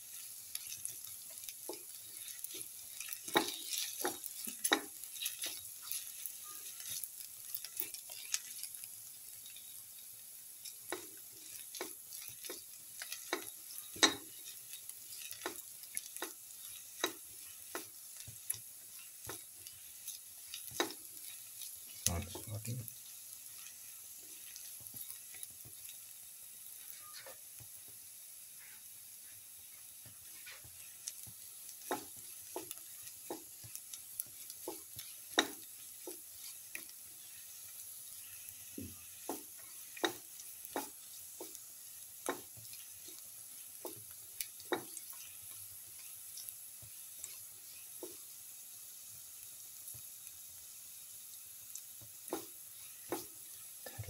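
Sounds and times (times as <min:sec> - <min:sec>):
spatula scraping and tapping pan: 0:00.0 - 0:48.4, 0:51.7 - 0:54.0
food sizzling in oil: 0:00.0 - 0:54.0.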